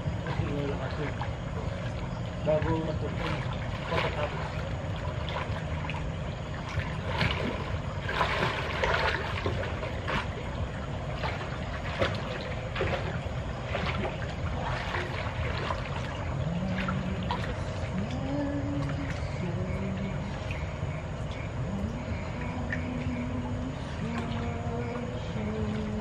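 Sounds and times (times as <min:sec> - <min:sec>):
pool water splashing: 0:00.0 - 0:26.0
steady low hum: 0:00.0 - 0:26.0.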